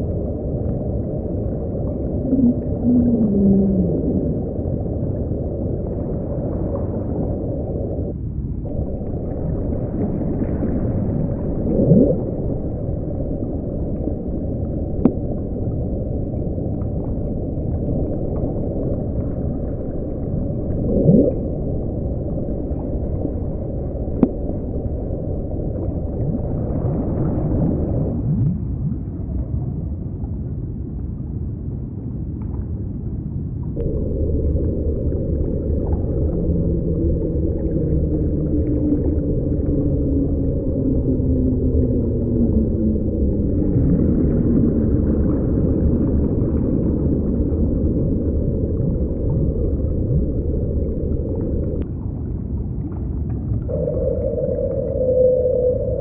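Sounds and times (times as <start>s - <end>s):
steady low tones: 0.0s - 29.5s, 33.8s - 56.0s
muffled underwater rumble: 0.0s - 56.0s
rising whale-like calls: 0.2s - 28.9s, 33.8s - 52.3s, 53.6s - 56.0s.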